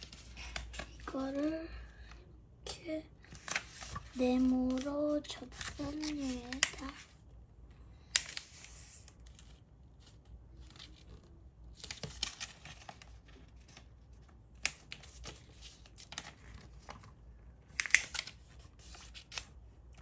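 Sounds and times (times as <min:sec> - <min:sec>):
paper rustling and crinkling: 0:00.0 - 0:01.4, 0:03.3 - 0:07.1, 0:08.1 - 0:20.0.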